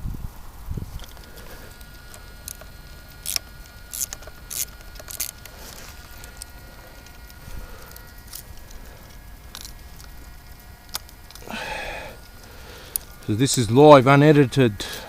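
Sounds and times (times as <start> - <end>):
hand tools clicking and scraping: 1.0 - 14.1, 14.8 - 15.0.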